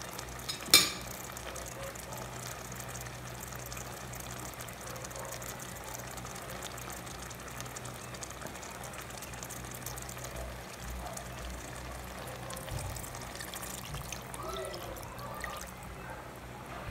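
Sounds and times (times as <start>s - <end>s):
stew simmering and bubbling: 0.0s - 16.9s.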